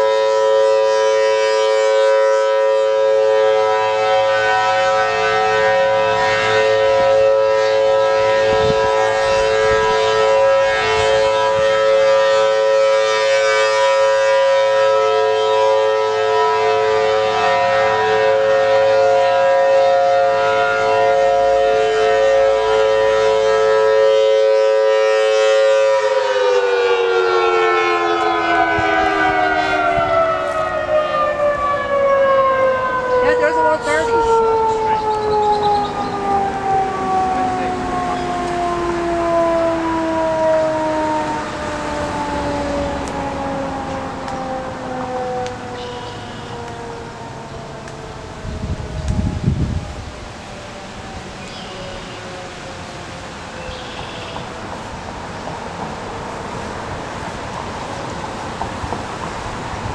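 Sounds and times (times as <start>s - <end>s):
two-tone siren wail: 0.0s - 59.9s.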